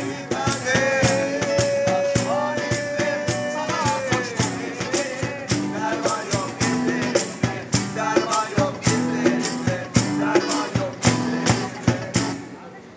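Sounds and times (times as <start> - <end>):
cajon beaten in rhythm: 0.0 - 12.6
acoustic guitars playing: 0.0 - 12.8.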